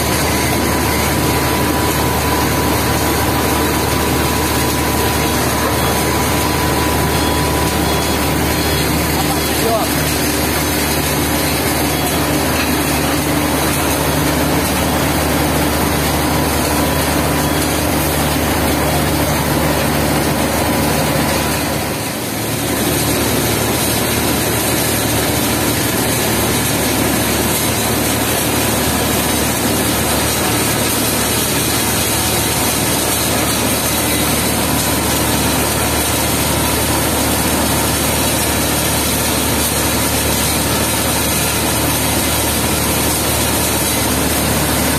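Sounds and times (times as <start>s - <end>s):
diesel engines running: 0.0s - 44.9s
mixing plant machinery running: 0.0s - 44.9s.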